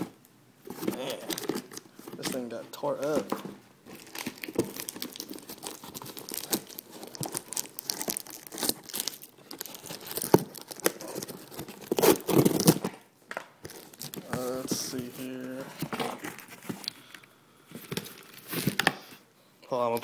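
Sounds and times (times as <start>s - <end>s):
plastic packaging crinkling and tearing: 0.8s - 17.2s.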